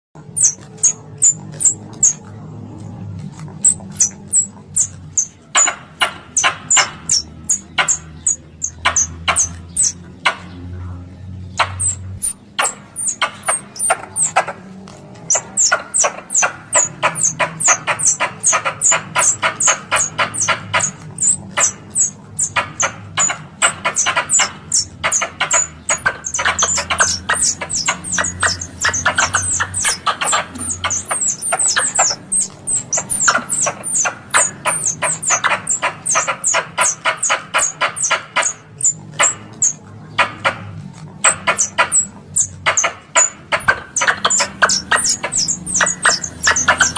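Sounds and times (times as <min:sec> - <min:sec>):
squirrel lure call chirps: 0:00.2 - 0:02.2, 0:03.6 - 0:10.5, 0:11.5 - 0:46.9.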